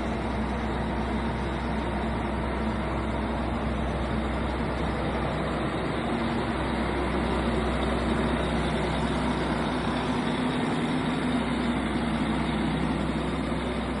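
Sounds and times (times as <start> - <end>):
diesel engine running steadily: 0.0 - 14.0.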